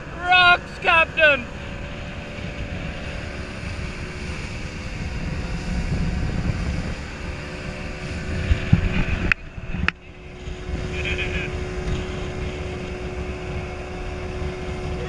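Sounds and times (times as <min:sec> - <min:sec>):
motorboat engine rumble: 0:00.0 - 0:15.0
wind noise on microphone: 0:01.6 - 0:15.0.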